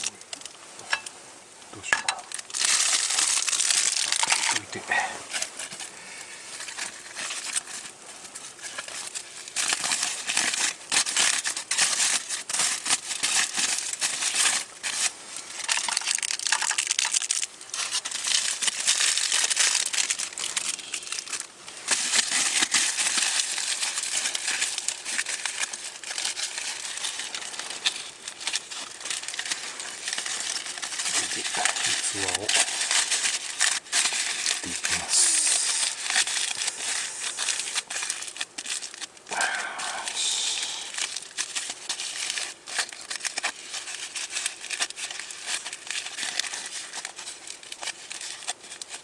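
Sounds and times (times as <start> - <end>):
packaging crinkling and rustling: 0.0 - 1.2, 1.8 - 49.0.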